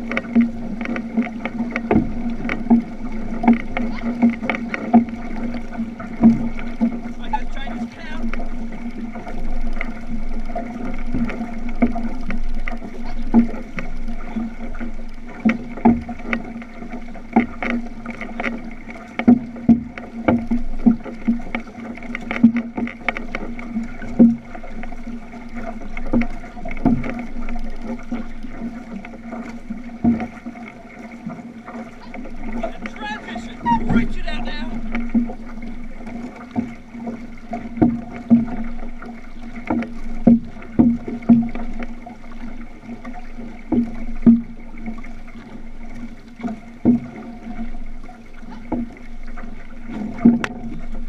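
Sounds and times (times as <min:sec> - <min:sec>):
paddle knocks and splashes: 0:00.0 - 0:51.0
water rushing along hull: 0:00.0 - 0:51.0.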